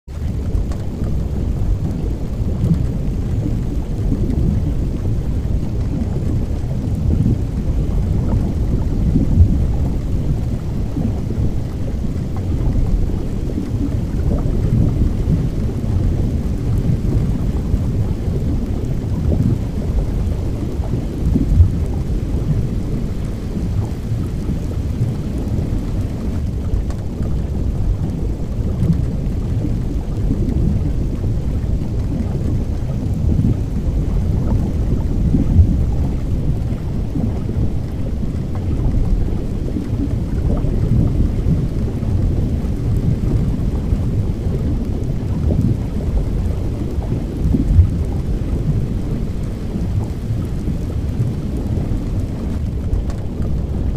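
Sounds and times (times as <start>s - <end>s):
steady low rumbling noise: 0.0s - 53.9s.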